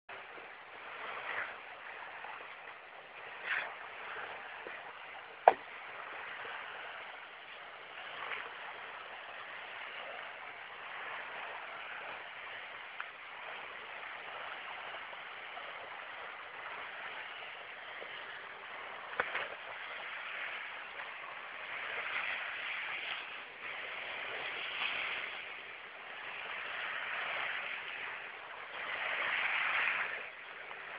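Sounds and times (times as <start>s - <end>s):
sea water washing against rocks: 0.1s - 30.9s.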